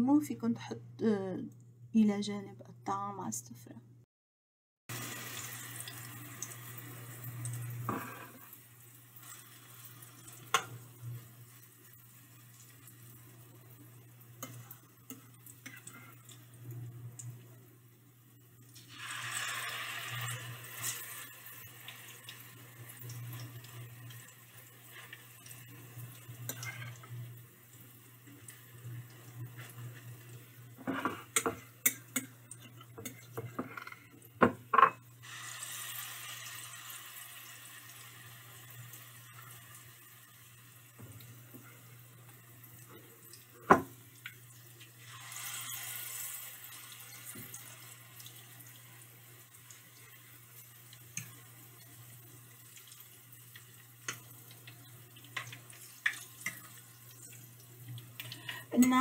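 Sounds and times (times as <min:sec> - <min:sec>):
frying oil sizzling: 0:04.9 - 0:59.0.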